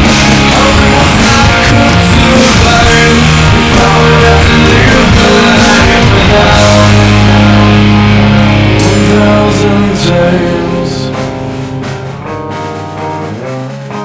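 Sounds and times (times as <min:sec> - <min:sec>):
drums: 0:00.0 - 0:14.0
electric guitars: 0:00.0 - 0:14.0.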